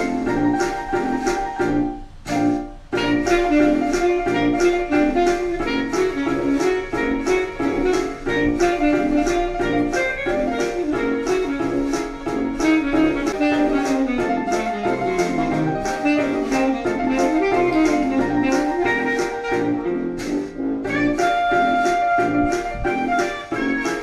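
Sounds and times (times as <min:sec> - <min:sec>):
instrumental jazz music: 0:00.0 - 0:24.0.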